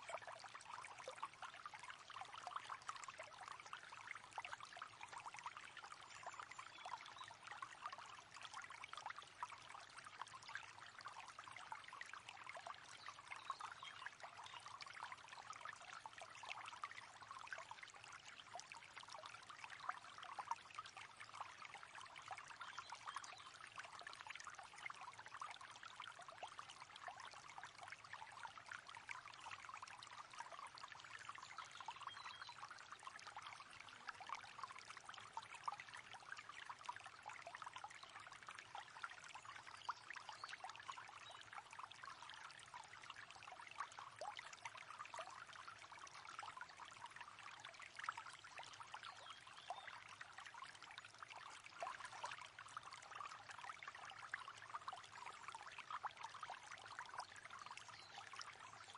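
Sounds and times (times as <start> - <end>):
shallow river water babbling: 0.0 - 58.9.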